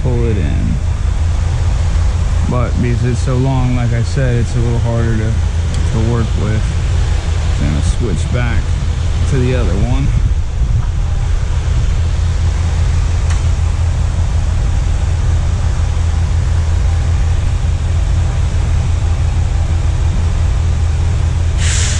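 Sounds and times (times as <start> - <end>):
low mechanical rumble: 0.0 - 21.9.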